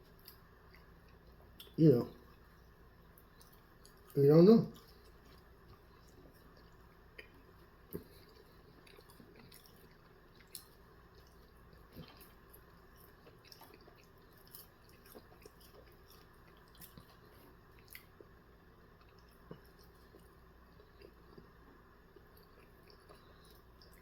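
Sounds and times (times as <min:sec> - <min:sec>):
chewing close to microphone: 0:00.1 - 0:24.0.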